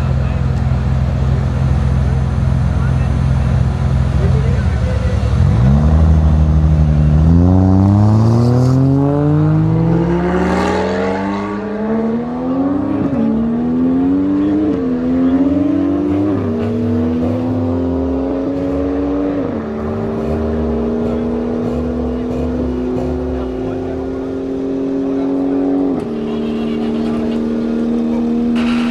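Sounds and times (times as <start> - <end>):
sports car accelerating: 0.0 - 28.9.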